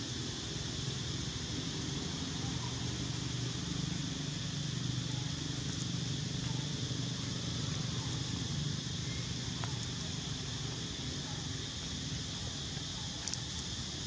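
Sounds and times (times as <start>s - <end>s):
continuous high hiss: 0.0s - 14.0s.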